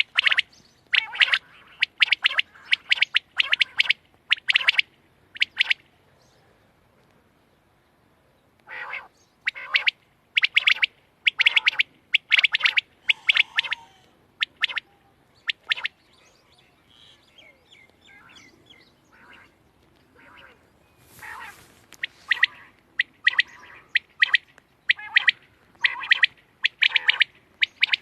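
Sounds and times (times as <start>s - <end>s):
quail calling: 0.0s - 5.9s, 8.6s - 28.0s.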